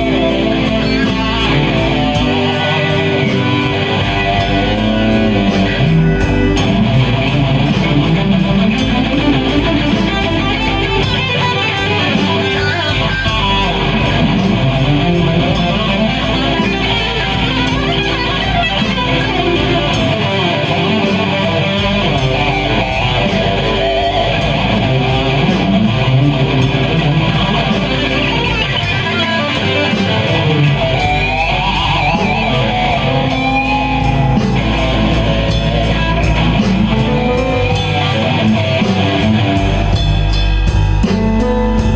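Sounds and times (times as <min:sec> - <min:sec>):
blues-rock band playing live: 0:00.0 - 0:41.9
electric guitar: 0:00.0 - 0:41.9.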